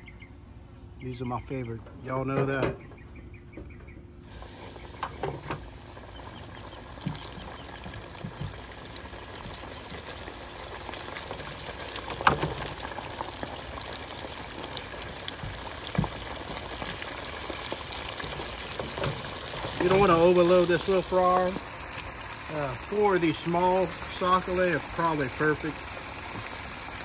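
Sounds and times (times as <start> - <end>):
hot oil bubbling and sizzling: 4.2 - 27.0.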